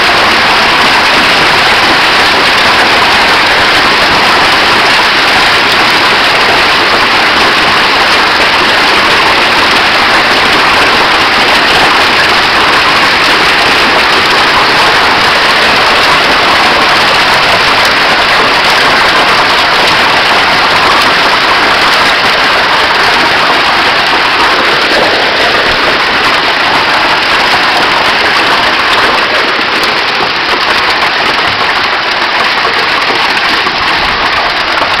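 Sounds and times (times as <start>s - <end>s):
heavy rain and hail: 0.0s - 35.0s.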